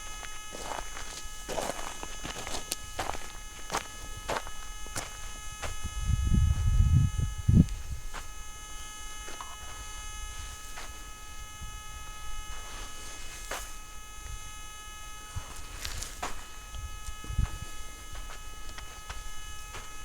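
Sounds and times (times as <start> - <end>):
electrical hum and whine: 0.0 - 20.0.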